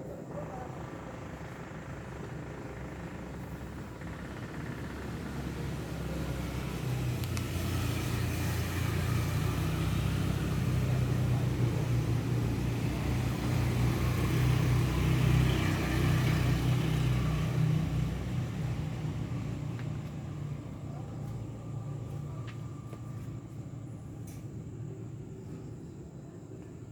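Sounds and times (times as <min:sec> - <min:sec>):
passing vehicle engine rumble: 0:00.0 - 0:26.9.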